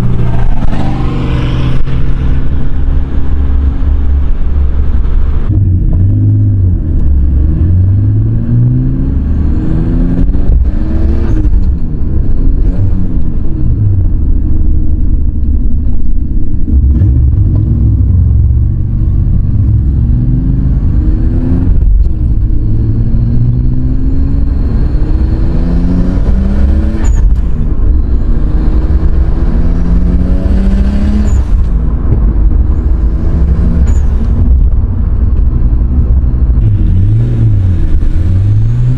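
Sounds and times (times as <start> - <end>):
car engine accelerating through gears: 0.0 - 14.6, 16.6 - 38.9.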